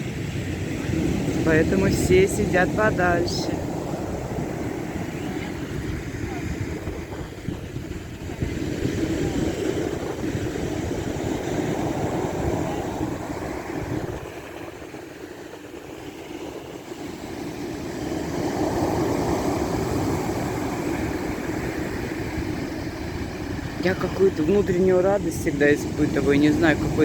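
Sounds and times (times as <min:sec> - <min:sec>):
sea waves rushing: 0:00.0 - 0:27.0
wind buffeting microphone: 0:00.0 - 0:27.0.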